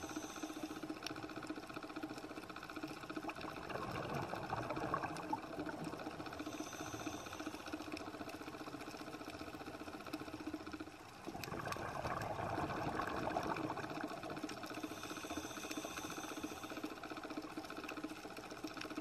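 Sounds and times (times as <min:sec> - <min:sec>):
fine crackle of reef: 0:00.0 - 0:19.0.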